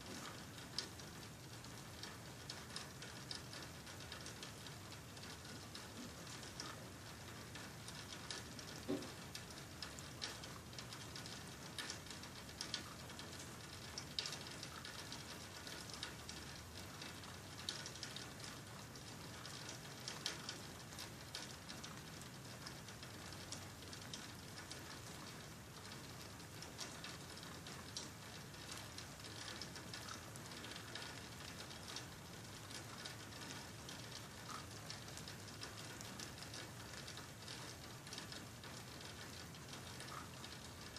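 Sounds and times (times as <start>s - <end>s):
faint steady rain: 0.0s - 40.9s.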